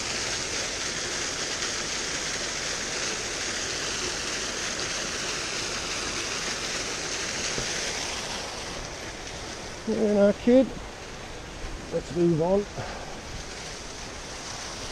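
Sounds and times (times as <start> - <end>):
waterfall splashing over rocks: 0.0 - 14.9.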